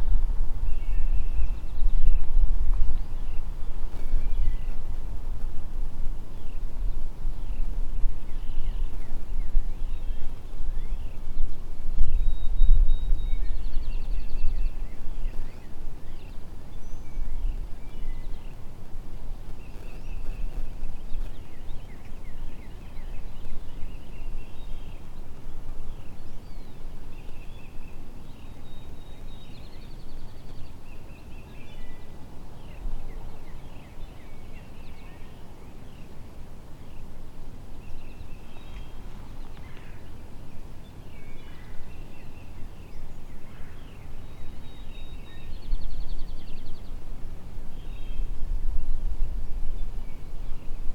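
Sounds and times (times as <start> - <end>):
songbirds chirping and trilling: 0.0 - 50.9
wind rumble on microphone: 0.0 - 50.9.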